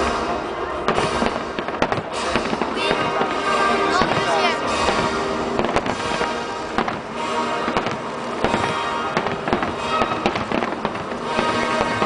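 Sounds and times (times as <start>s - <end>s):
firework shells bursting: 0.0s - 12.0s
music playing: 0.0s - 12.0s.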